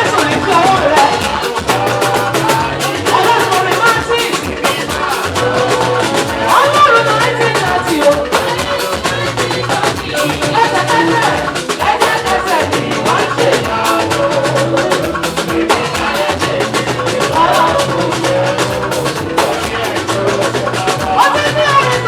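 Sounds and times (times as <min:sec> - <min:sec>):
band playing upbeat groove: 0:00.0 - 0:22.0
drums beating: 0:00.0 - 0:22.0.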